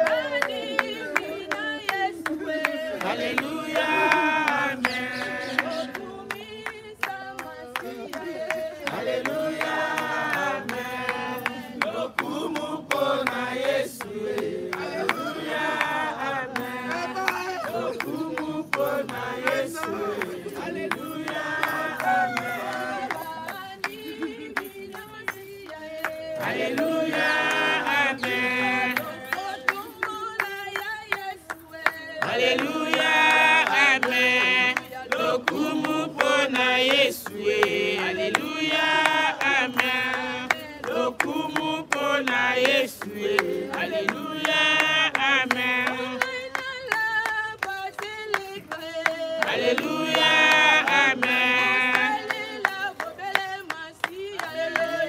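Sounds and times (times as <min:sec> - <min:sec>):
group singing: 0:00.0 - 0:55.0.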